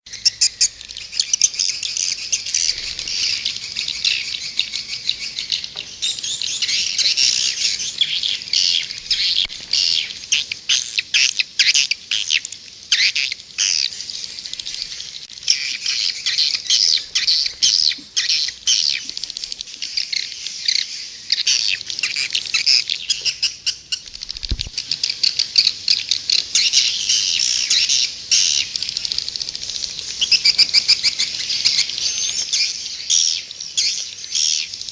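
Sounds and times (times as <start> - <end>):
swiftlets chirping and twittering: 0.1 - 34.9.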